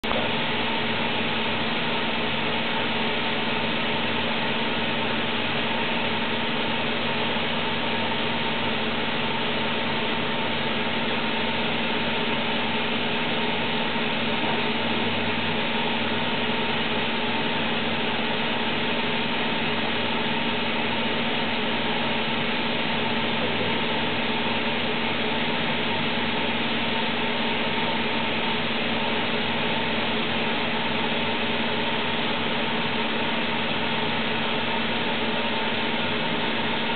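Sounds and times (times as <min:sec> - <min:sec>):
lathe machine hum: 0:00.0 - 0:36.9.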